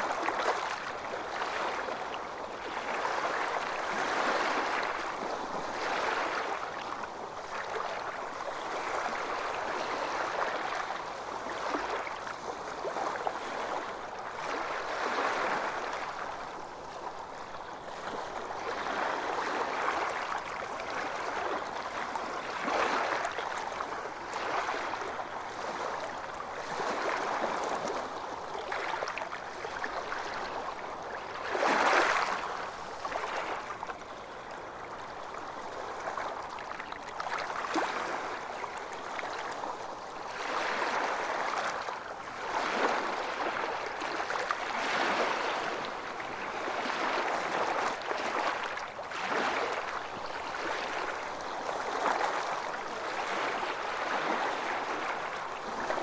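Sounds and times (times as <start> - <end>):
small waves lapping: 0.0 - 56.0.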